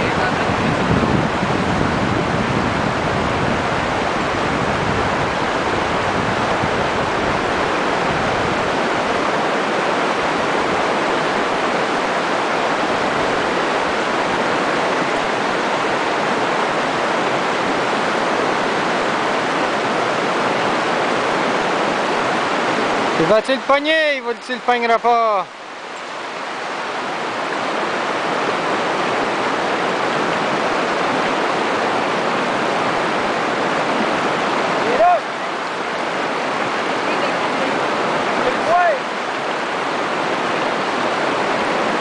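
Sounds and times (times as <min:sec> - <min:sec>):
river rushing over rocks: 0:00.0 - 0:42.0.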